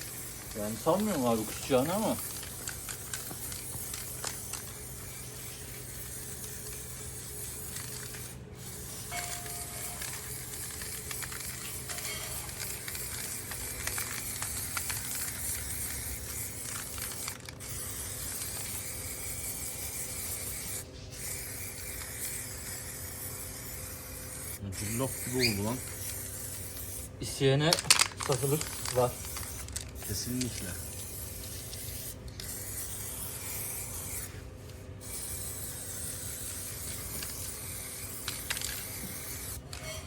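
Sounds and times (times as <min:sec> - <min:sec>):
spray paint can hissing: 0:00.0 - 0:27.1, 0:27.8 - 0:34.4, 0:35.0 - 0:39.9.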